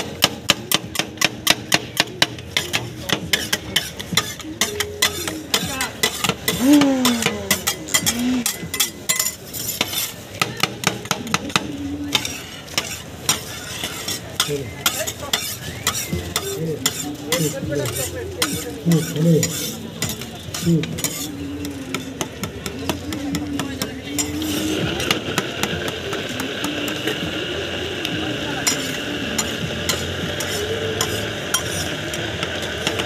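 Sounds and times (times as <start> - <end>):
metal spatulas tapping and scraping: 0.1 - 25.2, 28.6 - 33.0.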